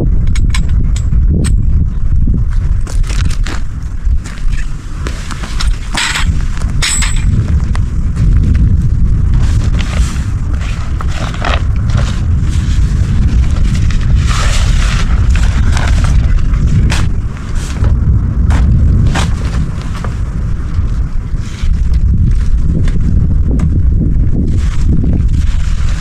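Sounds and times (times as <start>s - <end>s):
wind buffeting microphone: 0.0s - 26.0s
crackles and rustles: 0.1s - 26.0s.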